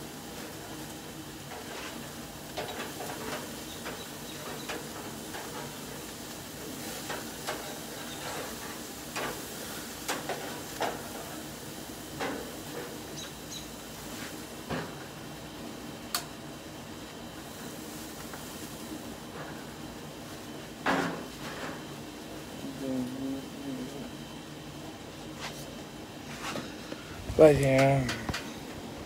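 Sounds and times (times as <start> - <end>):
burgers sizzling on grill: 0.0 - 29.0.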